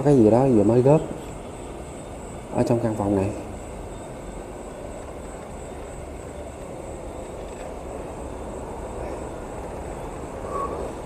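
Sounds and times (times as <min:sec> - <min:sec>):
distant highway traffic rumble: 0:00.0 - 0:11.0.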